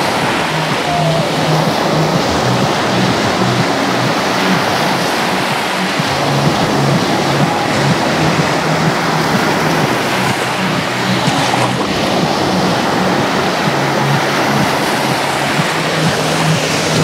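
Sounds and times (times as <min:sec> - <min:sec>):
small waves breaking on shore: 0:00.0 - 0:17.0.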